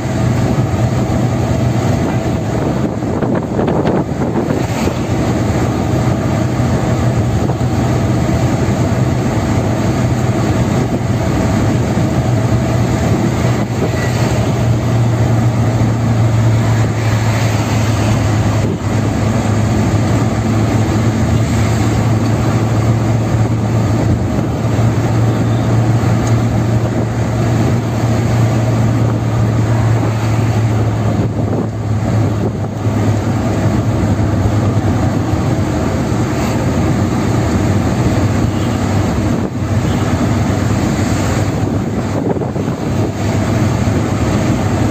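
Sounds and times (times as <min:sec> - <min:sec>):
car cruising on highway: 0:00.0 - 0:44.9.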